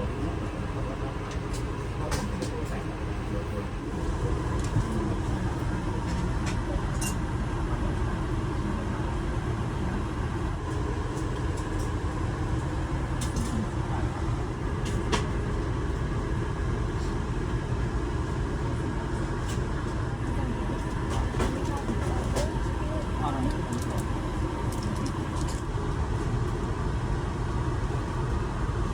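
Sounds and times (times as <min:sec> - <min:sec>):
aircraft cabin air conditioning rumble: 0:00.0 - 0:28.9.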